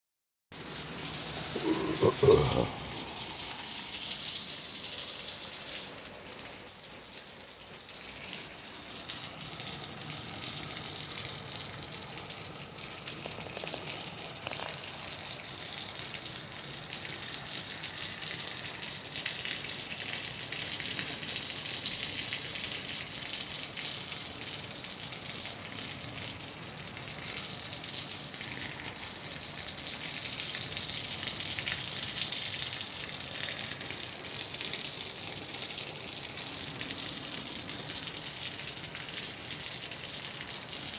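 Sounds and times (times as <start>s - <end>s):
heavy rain on flooded street: 0.6s - 40.9s.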